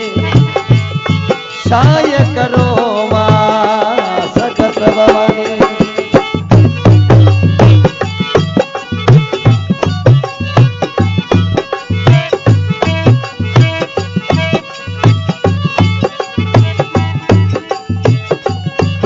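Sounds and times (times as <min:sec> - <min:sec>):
hand drums playing fast beat: 0:00.0 - 0:19.0.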